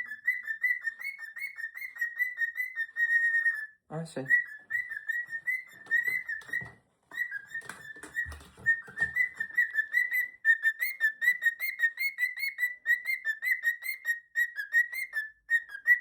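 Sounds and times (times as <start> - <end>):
cockatiel whistled chirps: 0.0 - 16.0.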